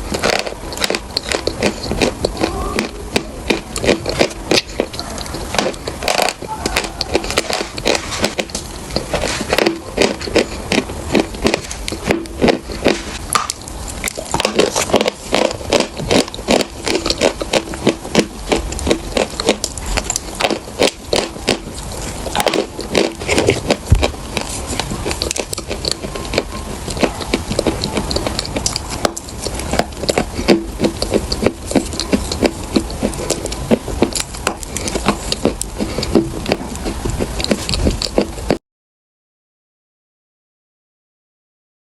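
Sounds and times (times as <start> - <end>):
chewing and crunching chalk: 0.0 - 38.6.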